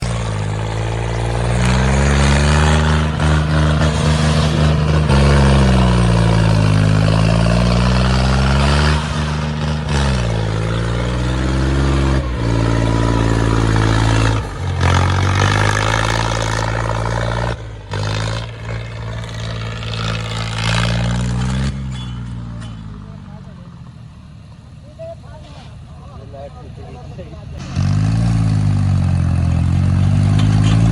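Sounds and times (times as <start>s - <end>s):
tractor engine revving: 0.0s - 30.9s.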